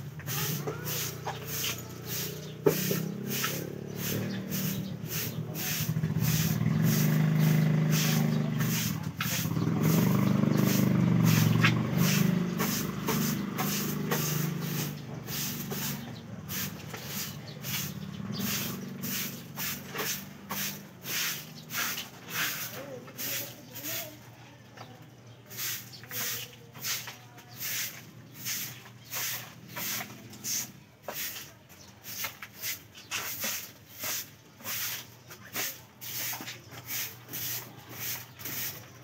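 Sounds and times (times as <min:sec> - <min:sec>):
vehicle engine humming: 0:00.0 - 0:32.0
short scratching strokes: 0:00.3 - 0:24.1, 0:25.5 - 0:31.5, 0:32.1 - 0:38.9.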